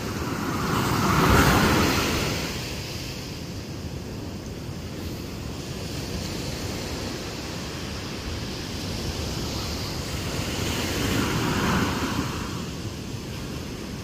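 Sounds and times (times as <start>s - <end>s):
ocean surf breaking: 0.0s - 14.0s
wind rumbling on microphone: 0.0s - 14.0s.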